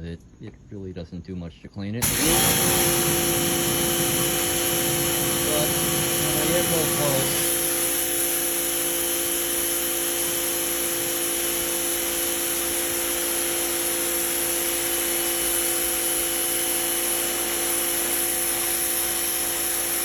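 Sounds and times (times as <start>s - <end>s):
pressure washer motor humming: 2.0s - 20.0s
water jet hissing: 2.0s - 20.0s.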